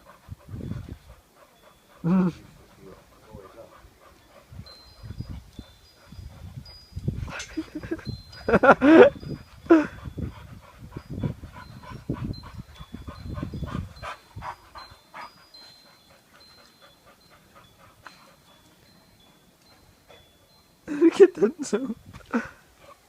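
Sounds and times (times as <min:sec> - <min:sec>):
dogs breathing: 0:00.0 - 0:23.0.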